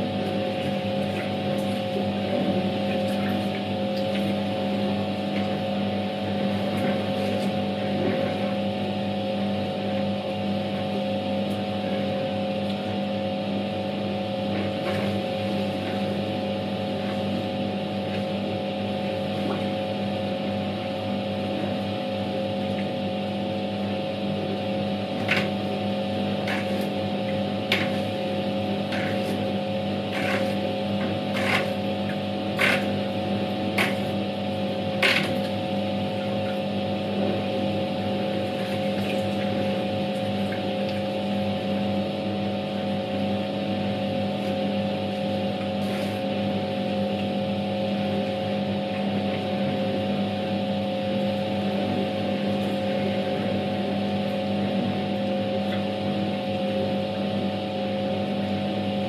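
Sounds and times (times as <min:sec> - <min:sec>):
washing machine motor humming: 0:00.0 - 0:59.0
water and laundry churning: 0:00.0 - 0:59.0.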